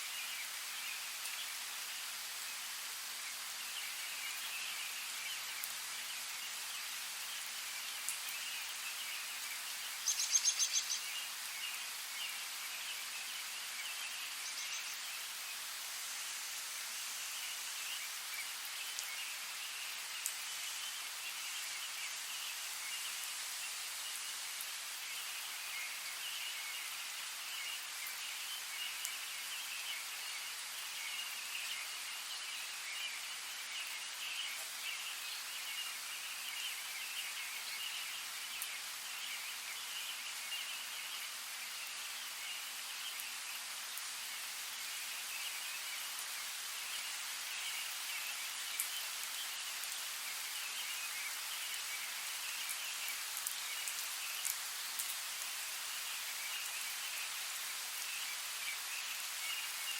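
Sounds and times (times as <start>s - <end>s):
rain on foliage: 0.0s - 59.9s.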